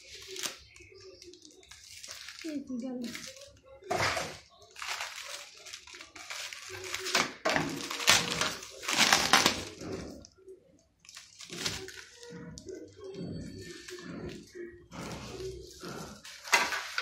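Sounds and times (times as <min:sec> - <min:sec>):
plastic wrap crinkling: 0:00.0 - 0:17.0.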